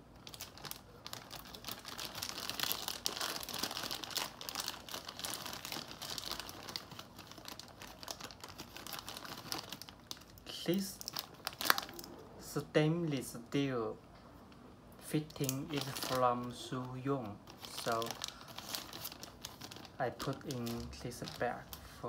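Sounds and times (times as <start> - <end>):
plastic bags crinkling: 0.1 - 12.2, 15.2 - 22.0.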